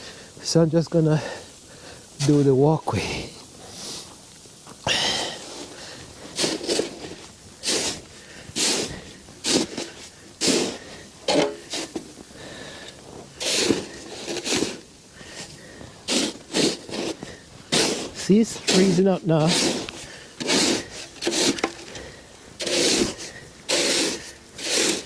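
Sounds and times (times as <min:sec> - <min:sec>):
snow shovel scraping: 0:00.0 - 0:04.2, 0:04.9 - 0:25.0.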